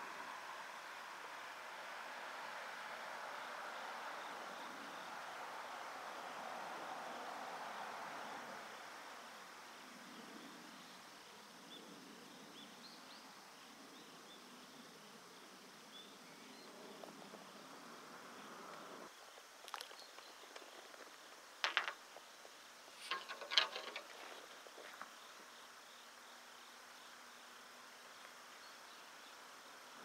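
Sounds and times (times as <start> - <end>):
insects chirping: 0.0 - 30.0
low hiss: 0.0 - 30.0.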